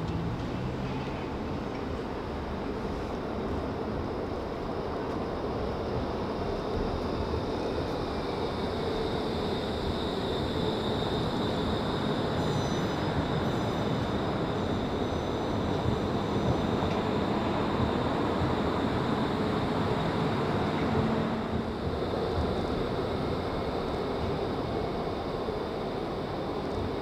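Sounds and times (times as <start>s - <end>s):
steel wheels rumbling on rails: 0.0s - 27.0s
tram high whine: 0.0s - 27.0s.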